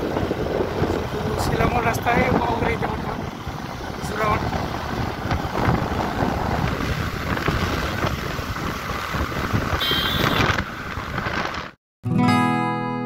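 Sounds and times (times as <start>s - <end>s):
motorcycle engine running: 0.0s - 11.7s
wind noise on microphone: 0.0s - 11.8s.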